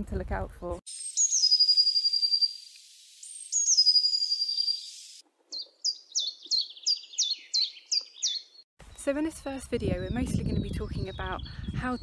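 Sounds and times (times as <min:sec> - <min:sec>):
bird singing high trill: 0:00.9 - 0:12.0
bird song of falling notes: 0:00.9 - 0:12.0.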